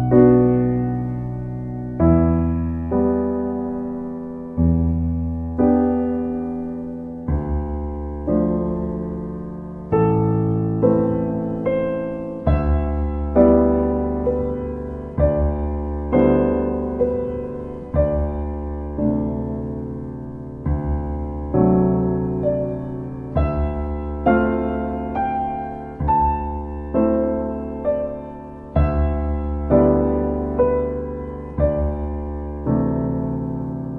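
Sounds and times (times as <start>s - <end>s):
gentle solo piano: 0.0s - 33.9s.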